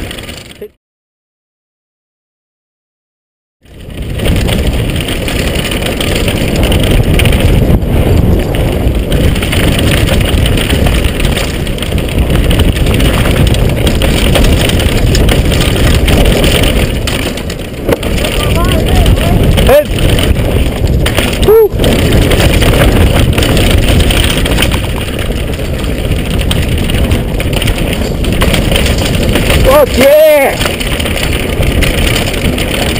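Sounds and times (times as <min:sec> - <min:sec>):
bike rattling over rough trail: 0:00.0 - 0:00.8, 0:03.6 - 0:32.9
wind buffeting microphone: 0:03.6 - 0:32.9.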